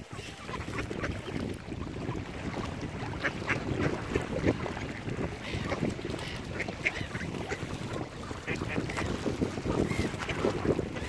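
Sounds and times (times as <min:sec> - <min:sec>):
ducks quacking: 0:00.0 - 0:02.3, 0:03.0 - 0:11.0.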